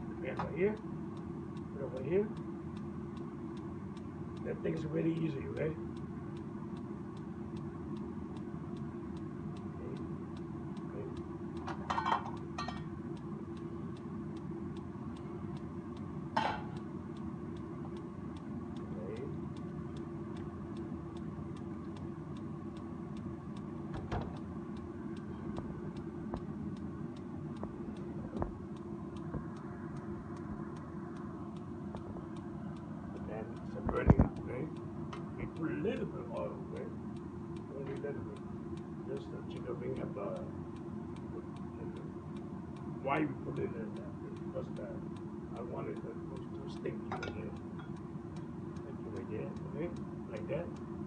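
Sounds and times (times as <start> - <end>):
faint regular ticking: 0.0 - 51.0
stove low rumble: 0.0 - 51.0.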